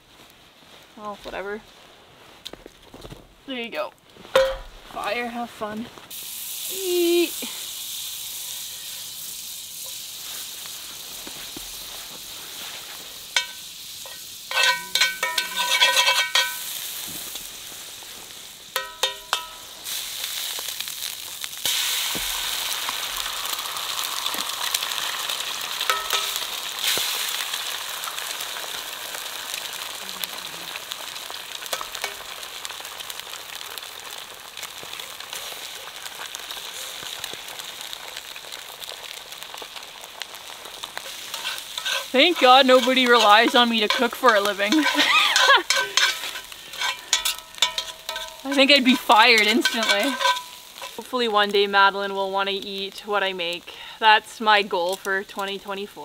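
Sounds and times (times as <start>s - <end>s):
eggs sizzling in a skillet: 0.0s - 56.0s.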